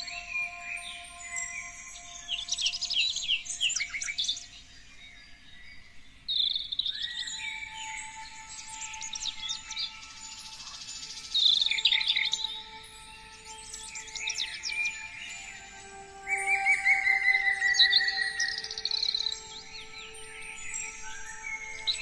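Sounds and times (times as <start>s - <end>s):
soft background music: 0.0s - 6.0s, 6.8s - 22.0s
songbirds chirping and singing: 0.0s - 22.0s.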